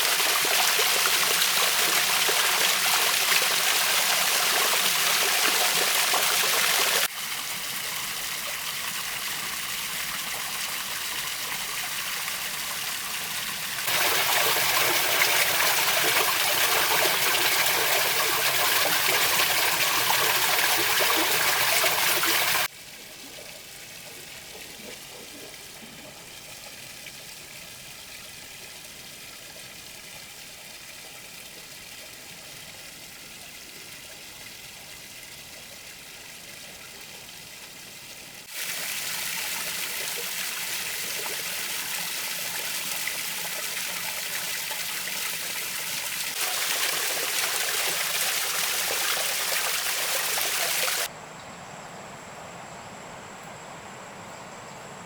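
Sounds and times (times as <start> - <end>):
water trickling from waterfall: 0.0 - 51.1.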